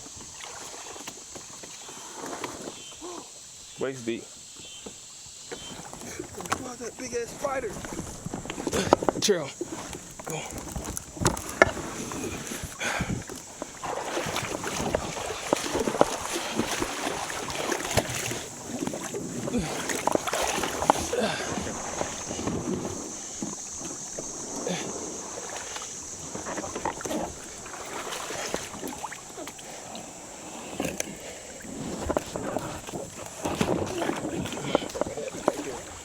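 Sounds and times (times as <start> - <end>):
water splashing around kayak: 0.0 - 36.0
steady high hiss: 2.7 - 33.3.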